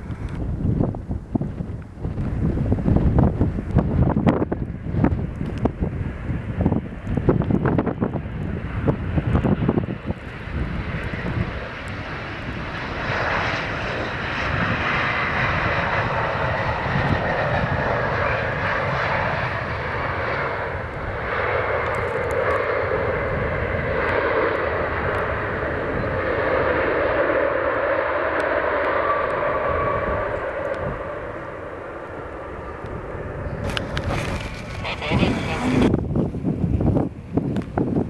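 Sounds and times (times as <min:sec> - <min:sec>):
jet engines whining: 0:02.0 - 0:37.2.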